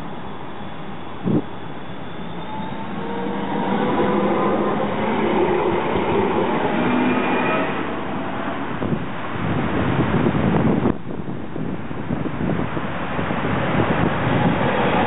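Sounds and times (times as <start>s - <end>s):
tram wheels rolling on rails: 0.0s - 10.0s, 12.6s - 15.0s.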